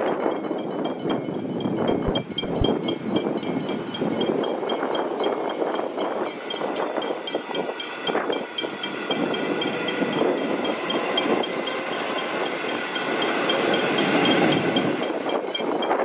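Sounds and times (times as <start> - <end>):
crossing warning bell ringing: 0.0 - 16.0
train wheels clattering on rails: 0.0 - 16.0.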